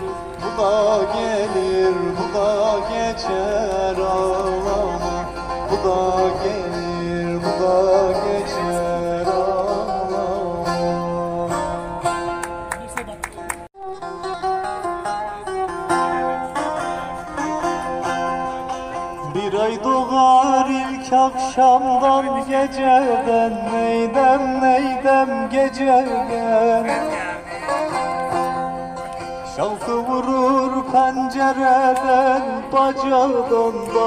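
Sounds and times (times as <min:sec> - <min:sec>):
music with plucked strings: 0:00.0 - 0:34.0.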